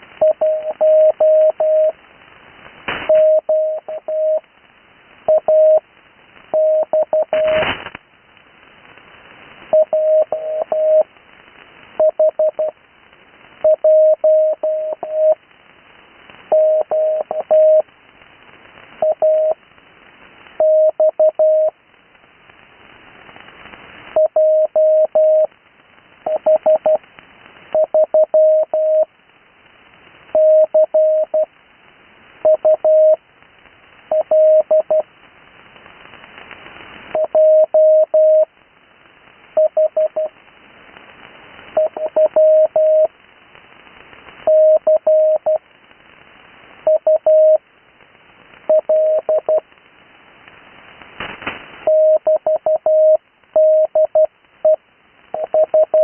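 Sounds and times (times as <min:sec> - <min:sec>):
faint radio band hiss: 0:00.0 - 0:56.0
radio crackle: 0:00.0 - 0:56.0.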